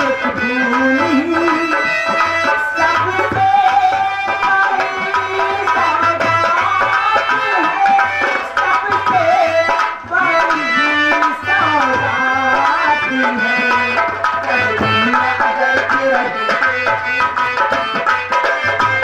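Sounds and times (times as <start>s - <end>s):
hand drum beat: 0.0s - 19.0s.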